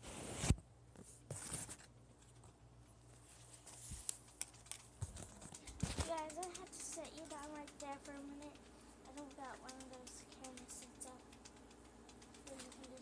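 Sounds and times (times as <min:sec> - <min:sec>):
light clicks and taps: 0:02.2 - 0:13.0.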